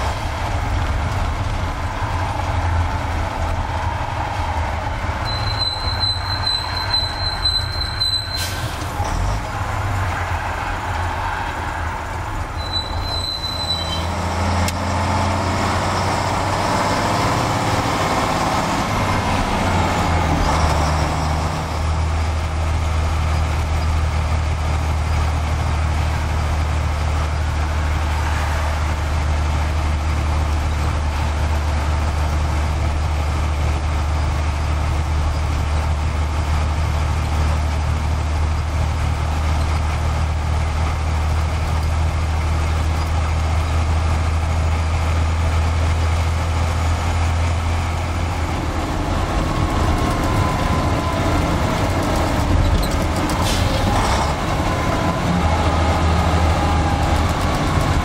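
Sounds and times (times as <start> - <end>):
lorry diesel engine droning: 0.0 - 58.0
road and wind noise: 0.0 - 58.0.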